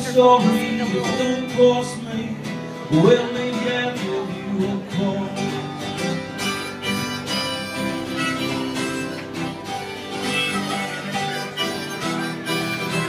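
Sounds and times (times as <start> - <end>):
acoustic guitar strumming: 0.0 - 13.0
held lead melody: 0.0 - 13.0.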